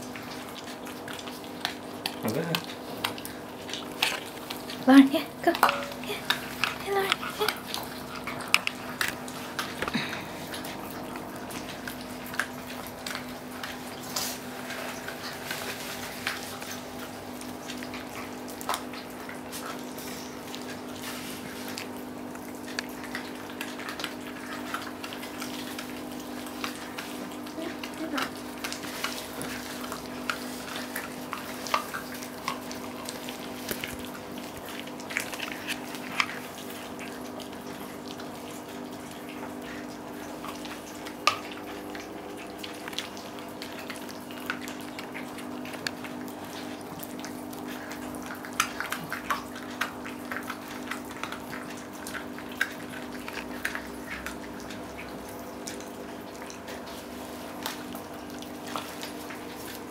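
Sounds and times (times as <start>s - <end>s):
dogs gnawing bones: 0.0s - 59.9s.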